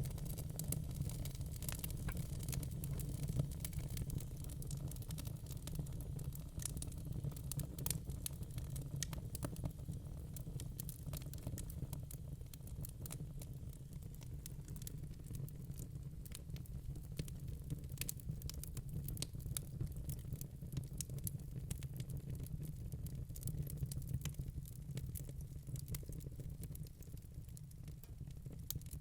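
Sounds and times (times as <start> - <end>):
low rumble of fire: 0.0 - 29.0
wood fire crackling: 0.0 - 29.0.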